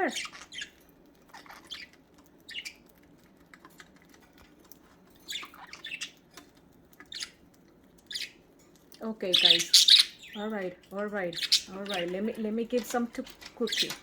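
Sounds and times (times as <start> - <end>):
budgies chirping and squawking: 0.0 - 8.5, 9.1 - 14.0.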